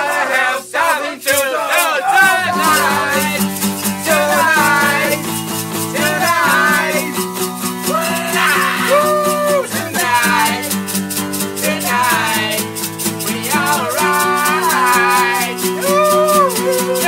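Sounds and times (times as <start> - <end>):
shaker rhythm: 0.0 - 17.0
song with plucked guitar: 1.3 - 17.0.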